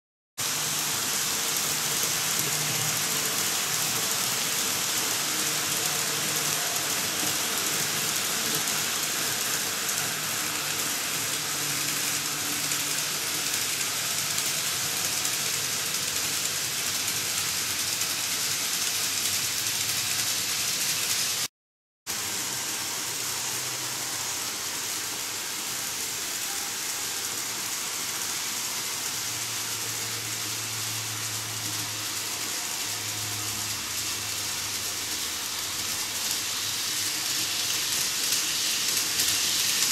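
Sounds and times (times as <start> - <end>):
model train wheels on rail: 0.4 - 21.5, 22.1 - 39.9.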